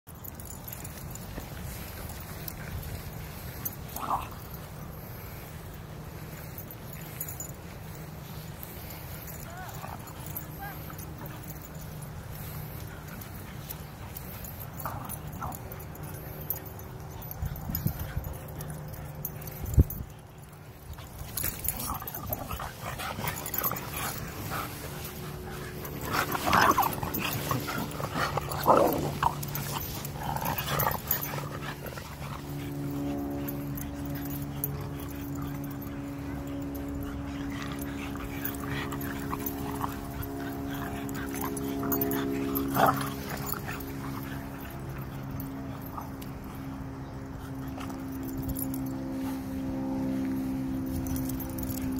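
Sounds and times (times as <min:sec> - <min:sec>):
steady low hum: 0:00.1 - 0:51.9
dogs vocalising while playing: 0:00.2 - 0:51.9.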